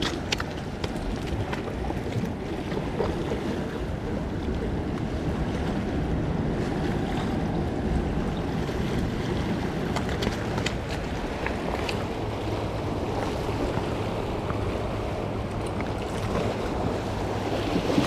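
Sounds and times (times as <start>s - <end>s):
ocean surf washing ashore: 0.0s - 18.0s
wind rumbling on microphone: 0.0s - 18.0s.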